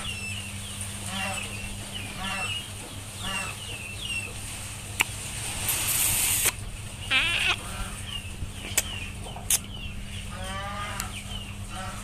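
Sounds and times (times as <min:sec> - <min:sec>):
small birds chirping: 0:00.0 - 0:05.3, 0:06.4 - 0:12.0
steady low hum: 0:00.0 - 0:12.0.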